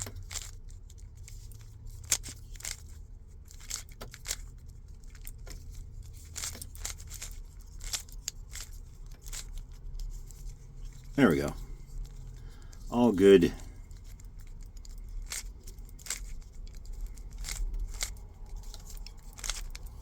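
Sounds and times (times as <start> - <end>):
plastic cube clicking as twisted: 0.0 - 11.1, 14.0 - 20.0.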